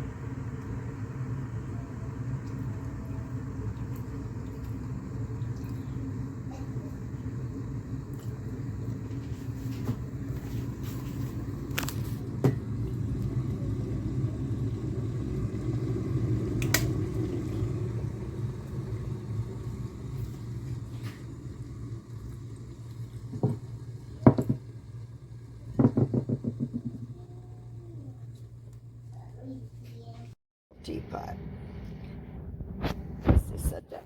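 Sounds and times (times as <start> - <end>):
electric kettle rumbling: 0.0 - 34.0.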